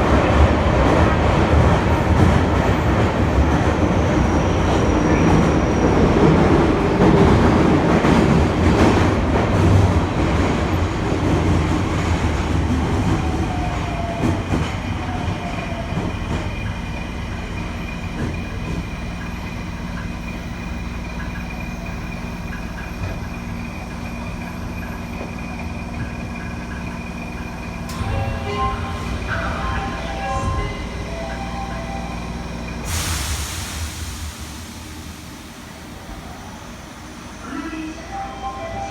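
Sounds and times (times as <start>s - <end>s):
train wheel and running noise: 0.0s - 38.9s.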